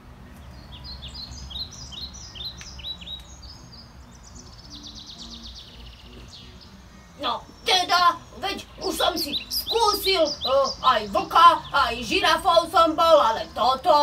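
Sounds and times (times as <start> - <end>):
songbird chirping and trilling: 0.0 - 14.0.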